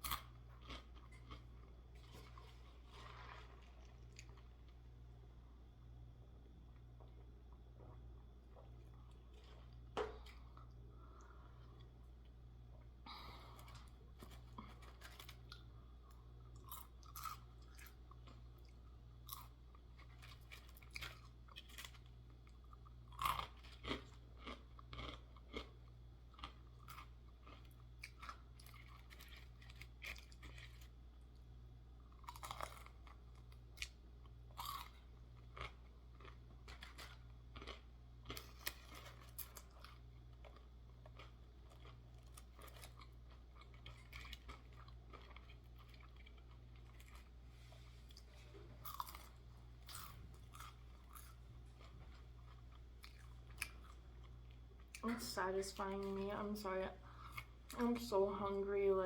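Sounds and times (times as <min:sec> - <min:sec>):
chewing crispy fried food: 0:00.0 - 0:05.0, 0:06.7 - 0:58.1.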